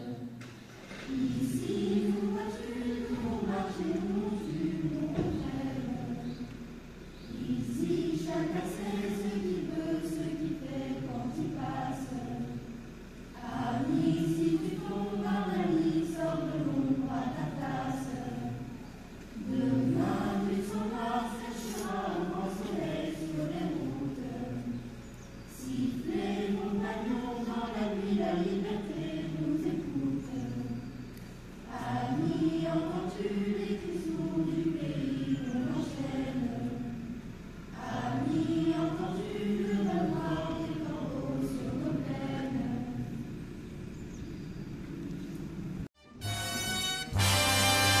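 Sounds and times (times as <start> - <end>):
choir singing slowly: 0.0 - 44.3, 46.1 - 48.0.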